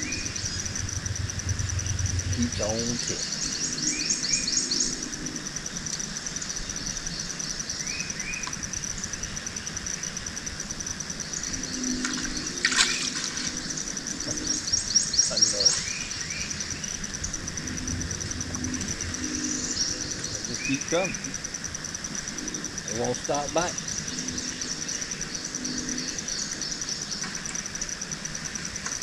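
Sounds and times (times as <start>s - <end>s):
birds chirping: 0.0s - 9.8s, 11.2s - 27.9s
insect trilling: 0.0s - 29.0s.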